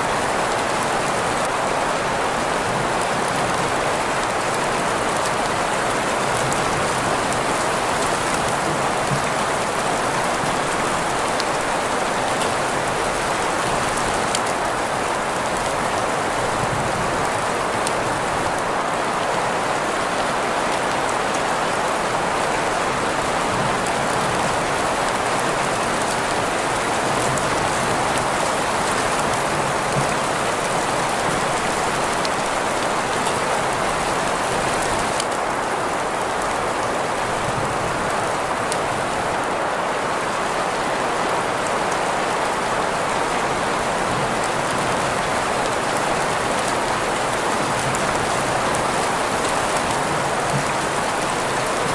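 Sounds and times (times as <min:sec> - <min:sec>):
steady rain hiss: 0:00.0 - 0:51.9.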